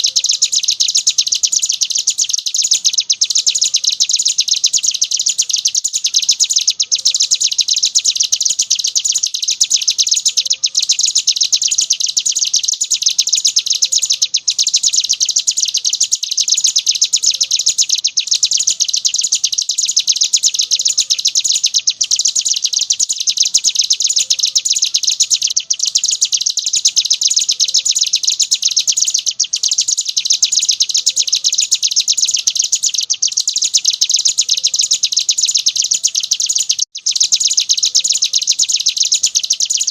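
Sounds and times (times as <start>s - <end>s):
bird singing rapid chattering trill: 0.0s - 39.9s.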